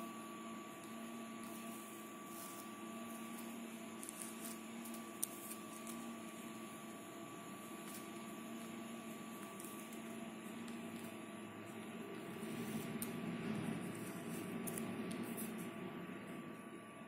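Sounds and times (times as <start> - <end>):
low electrical hum with tones: 0.0 - 17.0.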